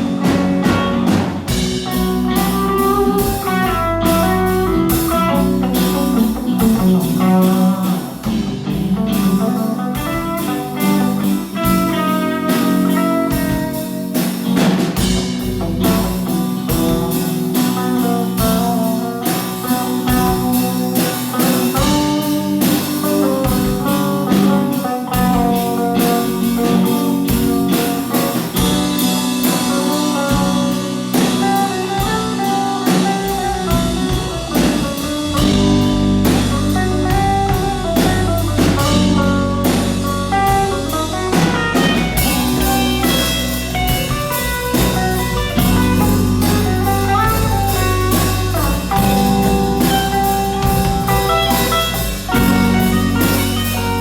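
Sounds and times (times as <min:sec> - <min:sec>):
band playing drums and guitar: 0:00.0 - 0:54.0.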